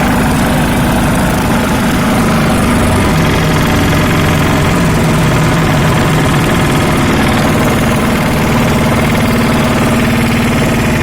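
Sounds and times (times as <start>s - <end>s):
road roller engine pulsing: 0.0s - 11.0s.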